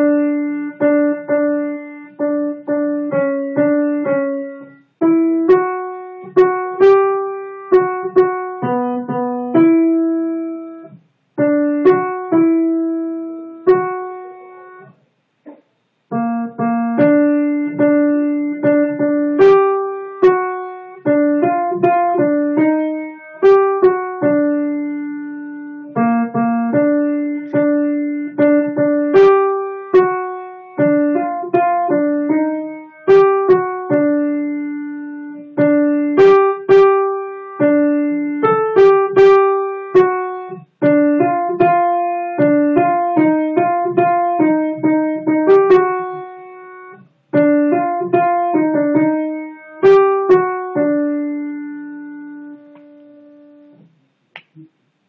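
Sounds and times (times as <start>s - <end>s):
piano melody line: 0.0s - 15.0s, 16.0s - 54.7s.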